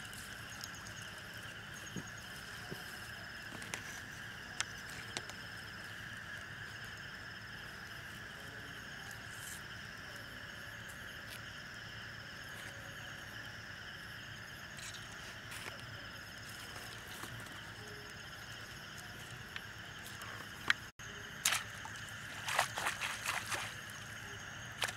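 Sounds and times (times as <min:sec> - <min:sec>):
high insect trill: 0:00.0 - 0:24.9
insects chirring: 0:00.0 - 0:24.9.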